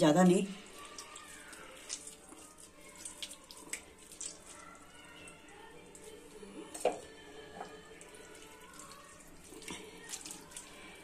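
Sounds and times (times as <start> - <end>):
water dripping: 0.0 - 11.0
wet squishing: 0.5 - 11.0.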